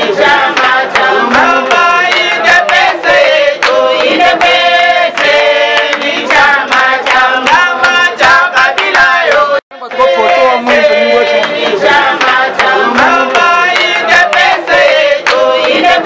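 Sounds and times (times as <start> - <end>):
sharp percussive beats: 0.0 - 16.0
voices singing: 0.0 - 16.0.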